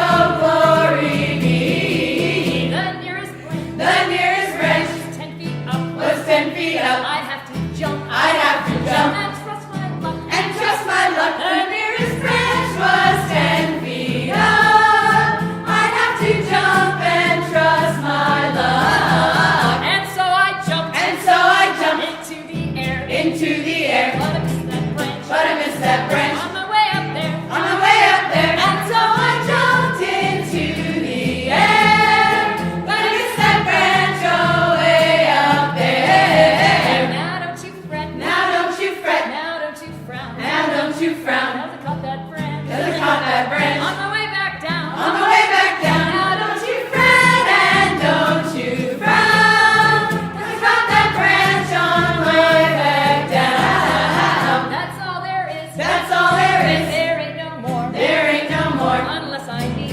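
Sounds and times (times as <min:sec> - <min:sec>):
group of voices singing: 0:00.0 - 0:59.9.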